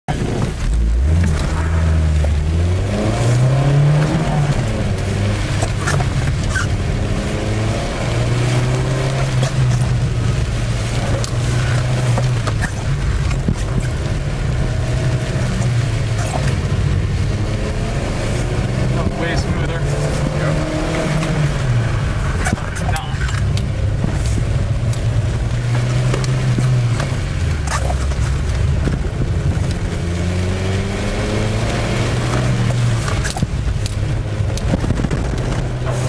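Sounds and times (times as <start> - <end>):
car engine accelerating: 0.1 - 36.0.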